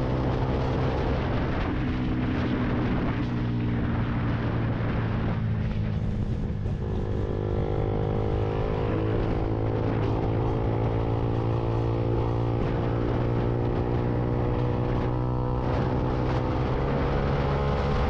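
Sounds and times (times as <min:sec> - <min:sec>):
motorcycle engine cruising: 0:00.0 - 0:18.0
wind and road noise: 0:00.0 - 0:18.0.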